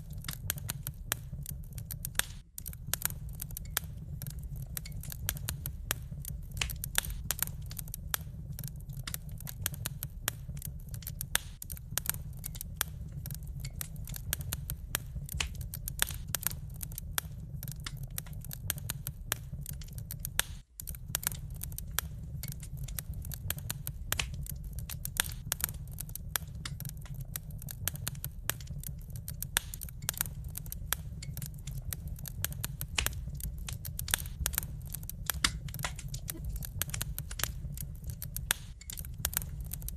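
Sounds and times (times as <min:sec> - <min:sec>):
fire rumbling: 0:00.0 - 0:39.9
wood fire crackling: 0:00.0 - 0:39.9.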